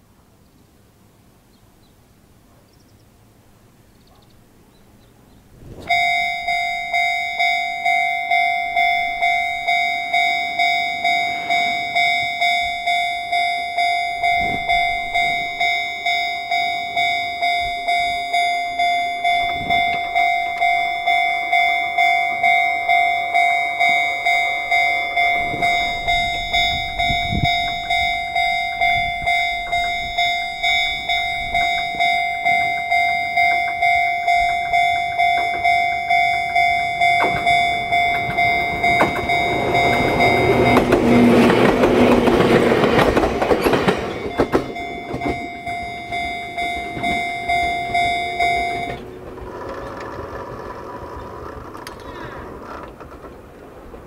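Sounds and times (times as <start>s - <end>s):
train rumbling over rails: 1.8s - 54.0s
level crossing bell dinging: 5.9s - 49.3s.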